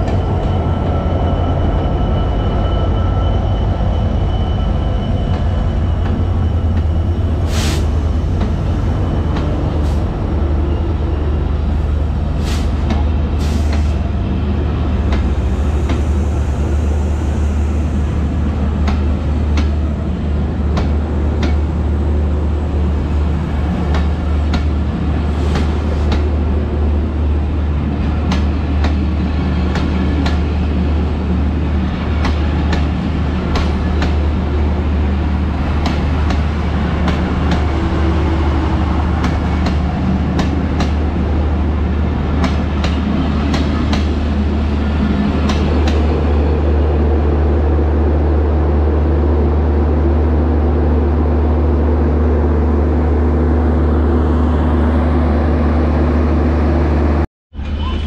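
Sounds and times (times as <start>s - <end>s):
train coaches rolling past: 0.0s - 58.0s.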